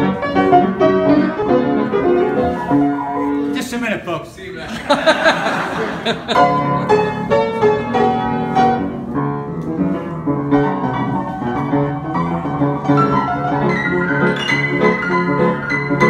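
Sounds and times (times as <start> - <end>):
upright piano playing: 0.0 - 4.3, 4.9 - 16.0.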